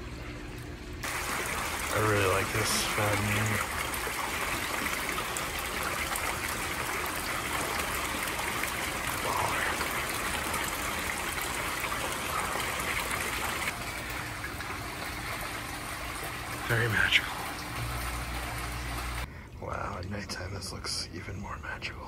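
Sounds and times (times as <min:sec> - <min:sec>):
fountain water splashing: 0:01.0 - 0:19.3.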